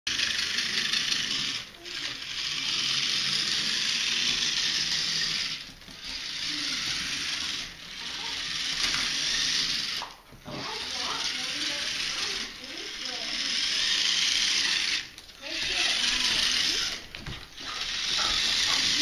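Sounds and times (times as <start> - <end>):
toy truck motor whirring: 0.1 - 19.0.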